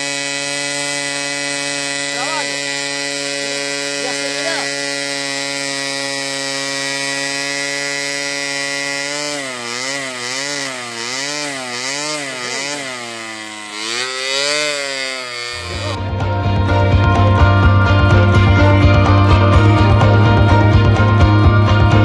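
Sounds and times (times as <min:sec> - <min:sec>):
model diesel engine running: 0:00.0 - 0:22.0.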